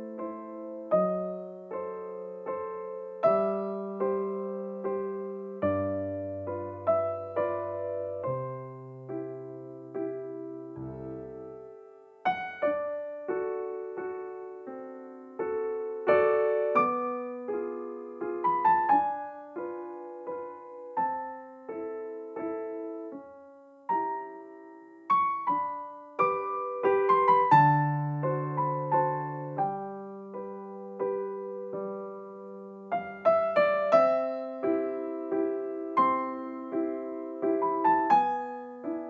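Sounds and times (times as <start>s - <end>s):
gentle piano music: 0.0s - 39.0s.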